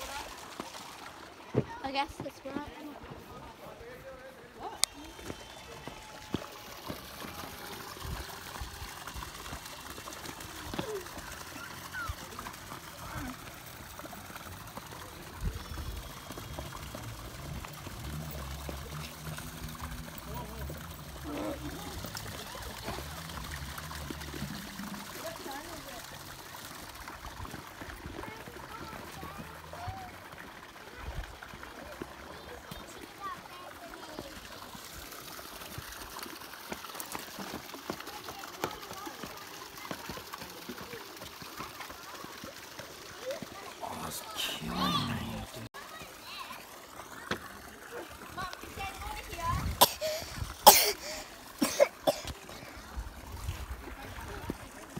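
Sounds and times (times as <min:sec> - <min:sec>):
water trickling over rocks: 0:00.0 - 0:54.9.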